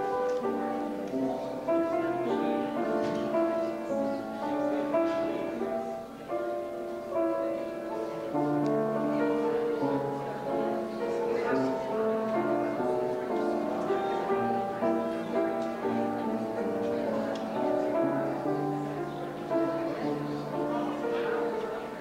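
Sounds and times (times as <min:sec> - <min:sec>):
slow keyboard music: 0:00.0 - 0:22.0.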